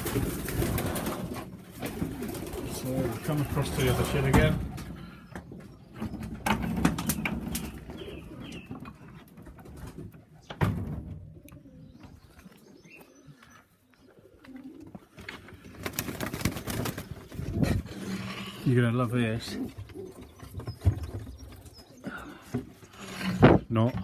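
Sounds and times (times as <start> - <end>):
pigeons cooing: 0.0 - 10.5, 11.2 - 23.4.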